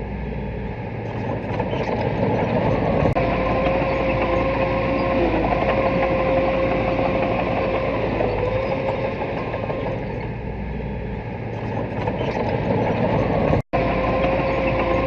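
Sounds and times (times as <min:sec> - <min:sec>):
bulldozer diesel engine working: 0:00.0 - 0:15.0
mechanical clatter: 0:01.0 - 0:10.6, 0:11.2 - 0:15.0.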